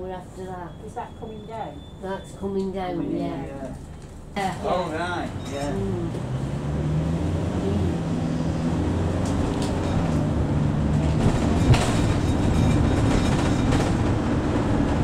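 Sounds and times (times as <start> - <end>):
diesel engine drone: 0.0 - 15.0
road rumble: 0.0 - 15.0.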